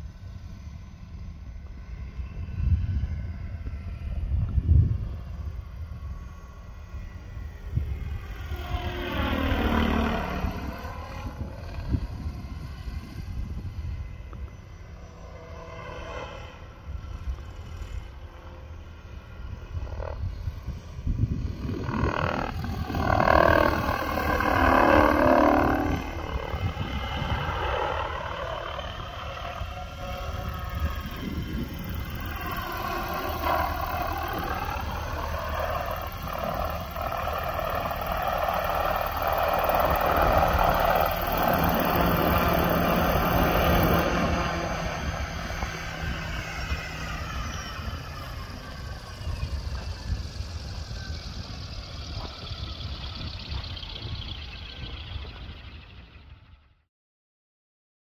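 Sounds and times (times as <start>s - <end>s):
model helicopter engine and rotor: 0.0s - 56.9s.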